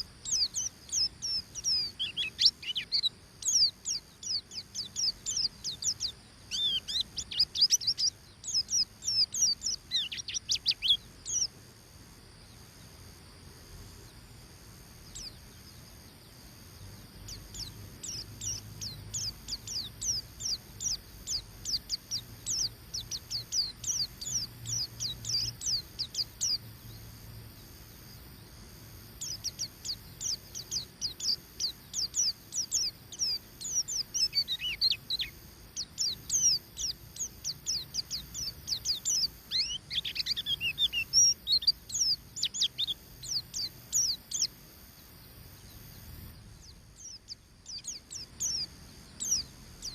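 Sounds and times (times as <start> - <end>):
bird chirping song: 0.0 - 49.9.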